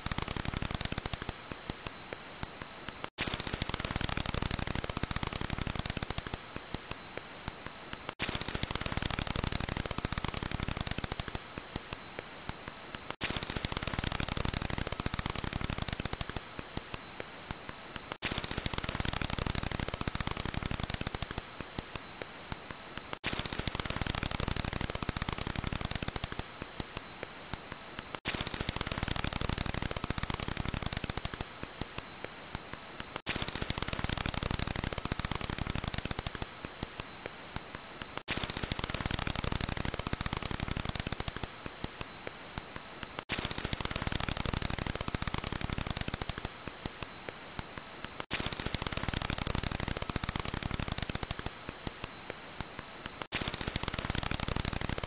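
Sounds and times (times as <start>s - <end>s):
bat echolocation clicks: 0.0s - 55.0s
faint steady whine: 0.0s - 55.0s.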